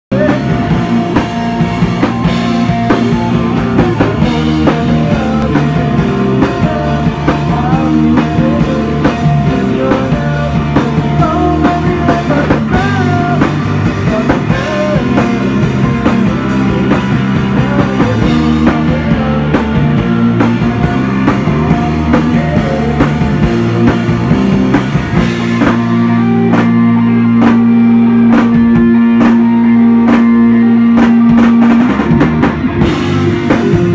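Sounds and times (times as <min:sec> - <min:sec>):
drum kit beat: 0:00.1 - 0:33.9
electric guitar: 0:00.1 - 0:33.9
live rock band playing: 0:00.1 - 0:33.9.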